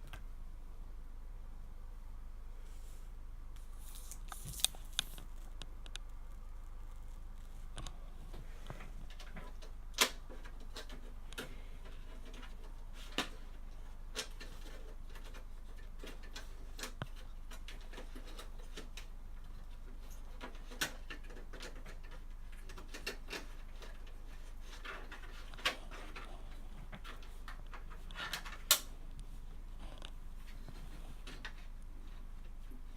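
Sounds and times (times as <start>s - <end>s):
steady low hum: 0.0s - 20.8s, 21.6s - 32.9s.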